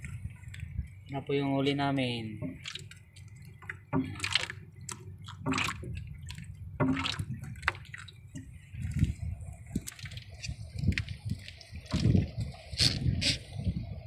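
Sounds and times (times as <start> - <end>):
water splashing and dripping: 2.2 - 14.0.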